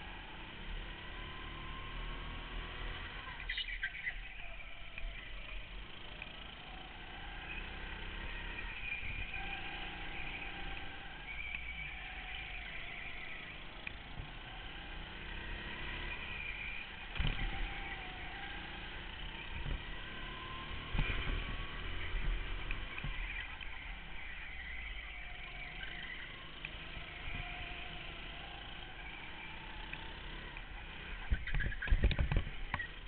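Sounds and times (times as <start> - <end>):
go-kart engine revving: 0.0 - 33.0.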